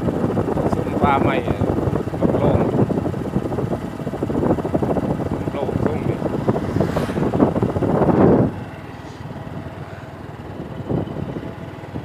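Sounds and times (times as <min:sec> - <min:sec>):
vehicle engine rumble: 0:00.0 - 0:12.0
wind buffeting microphone: 0:00.0 - 0:12.0.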